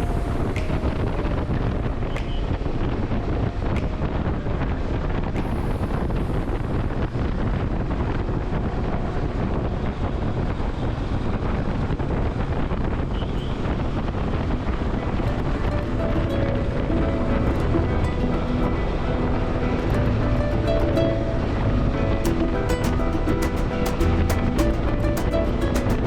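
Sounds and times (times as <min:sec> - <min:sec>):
road noise: 0:00.0 - 0:26.0
wind buffeting microphone: 0:00.0 - 0:26.0.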